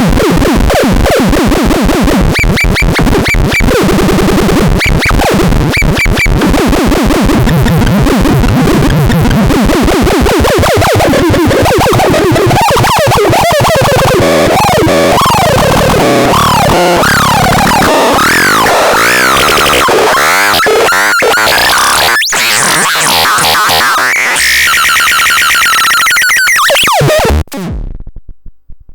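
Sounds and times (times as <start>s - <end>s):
synthesizer buzzing and warbling sweeps: 0.0s - 27.8s.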